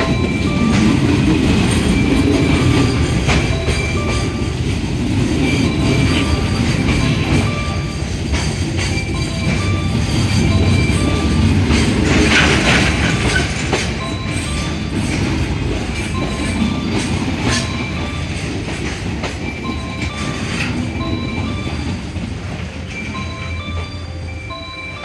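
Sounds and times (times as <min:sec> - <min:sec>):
wheels clacking over rail joints: 0:00.0 - 0:24.2
freight train rumbling past: 0:00.0 - 0:25.0.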